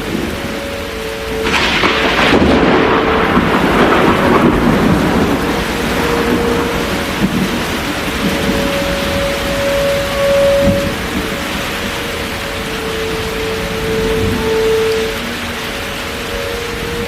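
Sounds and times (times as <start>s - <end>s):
faint wavering siren tone: 0.0s - 17.0s
steady rain: 0.0s - 17.0s
thunder rumbling: 0.0s - 17.0s.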